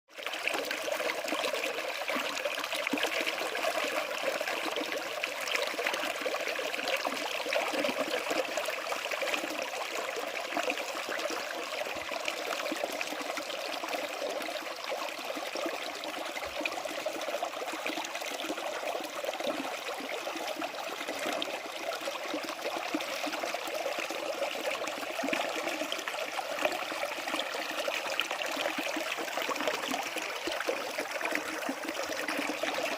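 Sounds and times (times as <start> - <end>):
stream flowing over rocks: 0.1 - 32.9.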